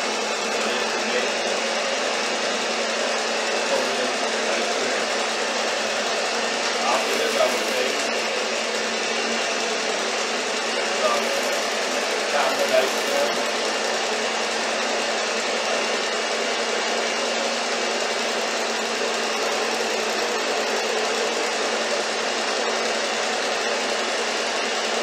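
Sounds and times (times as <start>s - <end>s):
electric stand mixer running: 0.0s - 25.0s.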